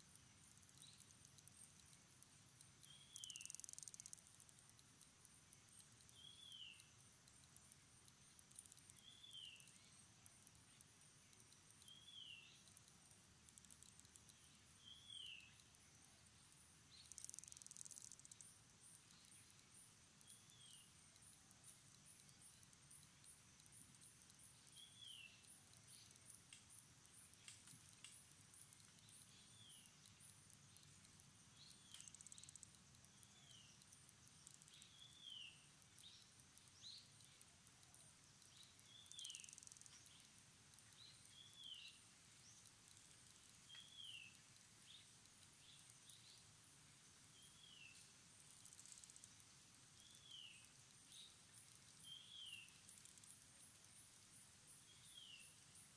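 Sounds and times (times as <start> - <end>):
pulsing insect trill: 0.0 - 55.9.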